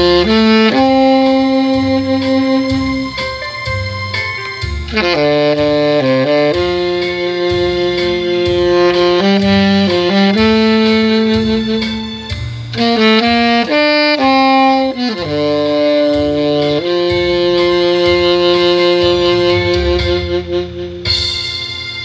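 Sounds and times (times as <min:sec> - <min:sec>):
backing track with steady beat: 0:00.0 - 0:22.0
tenor saxophone melody: 0:00.0 - 0:22.0.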